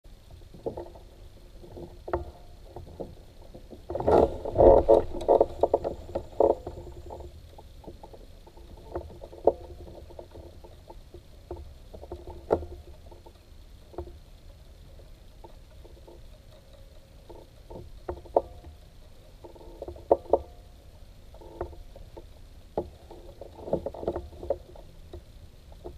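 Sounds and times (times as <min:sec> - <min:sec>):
kayak hull and gear knocking: 0:00.4 - 0:14.2, 0:15.4 - 0:20.7, 0:21.4 - 0:25.9.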